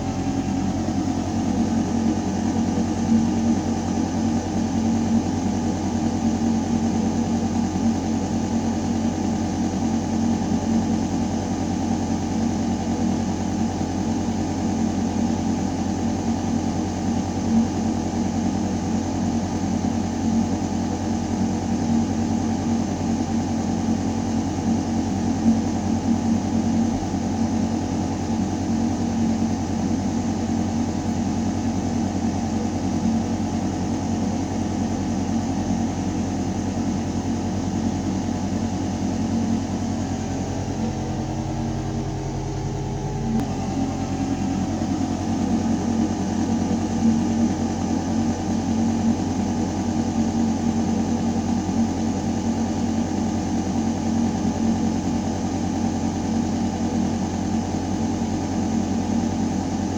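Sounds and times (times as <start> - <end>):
ventilation system humming: 0.0 - 59.9.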